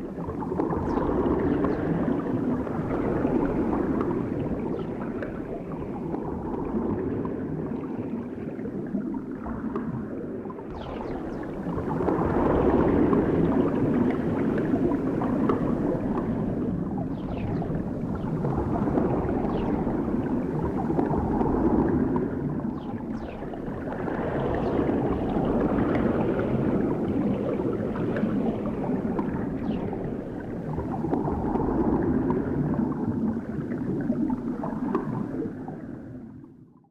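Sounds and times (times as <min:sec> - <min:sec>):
muffled churning water underwater: 0:00.0 - 0:36.9.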